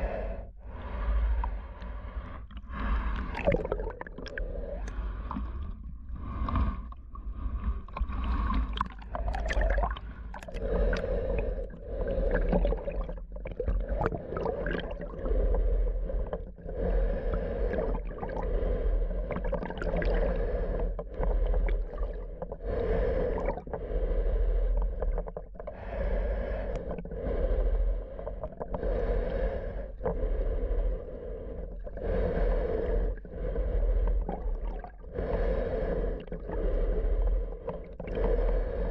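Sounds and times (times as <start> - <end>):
breathing through snorkel mask: 0.0 - 38.9
low underwater rumble: 0.0 - 38.9.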